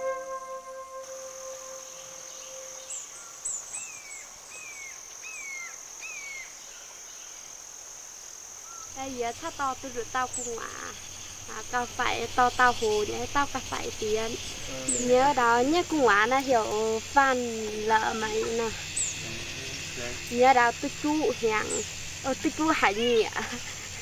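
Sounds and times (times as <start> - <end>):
bird chirping: 0.0 - 6.8, 8.7 - 24.0
high-pitched insect drone: 0.0 - 6.8, 7.6 - 24.0.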